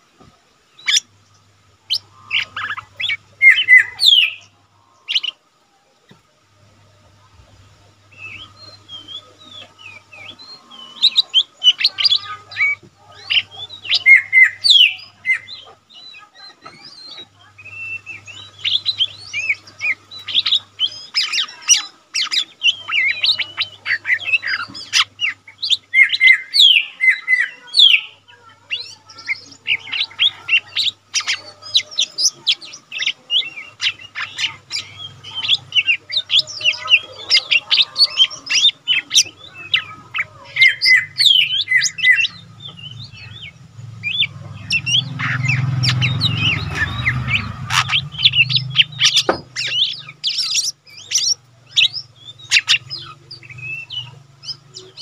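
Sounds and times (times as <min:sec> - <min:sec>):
bird chirping and twittering: 0:00.0 - 0:55.0.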